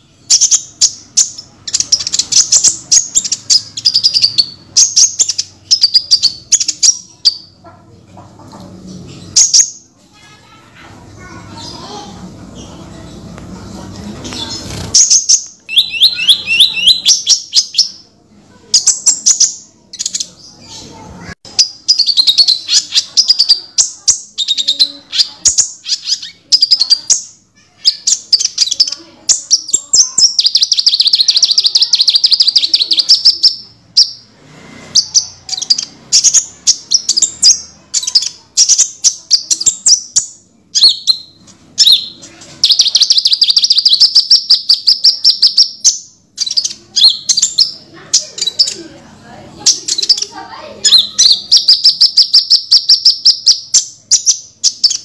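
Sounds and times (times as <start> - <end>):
bird chirping and trilling: 0.0 - 55.0.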